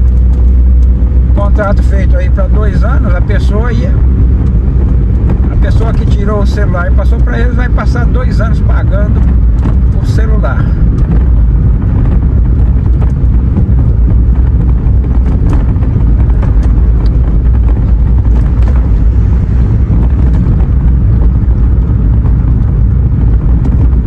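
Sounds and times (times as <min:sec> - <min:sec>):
car interior road noise: 0:00.0 - 0:24.0.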